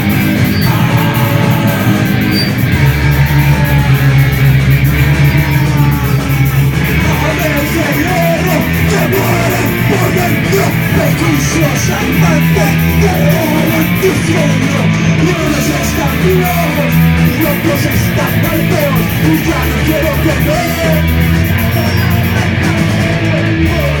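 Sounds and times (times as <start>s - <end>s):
rock band playing live: 0.0s - 24.0s
wavering guitar line: 0.0s - 24.0s.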